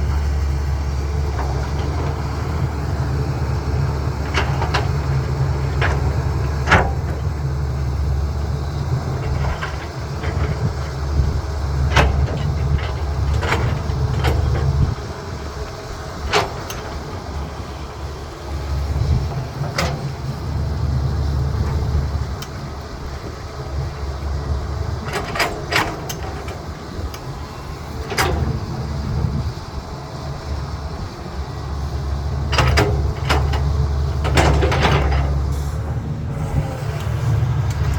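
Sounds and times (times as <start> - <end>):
excavator diesel engine rumbling: 0.0 - 37.9.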